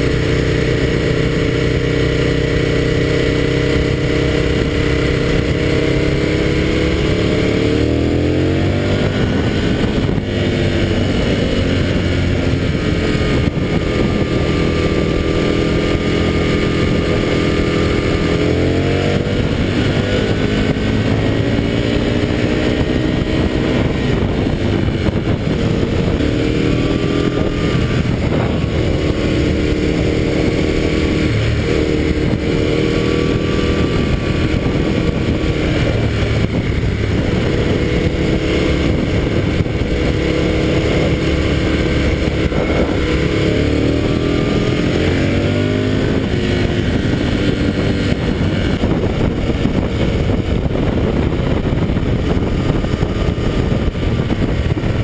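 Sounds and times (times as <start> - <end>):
motorcycle engine: 0.0 - 55.0
wind rush: 0.0 - 55.0.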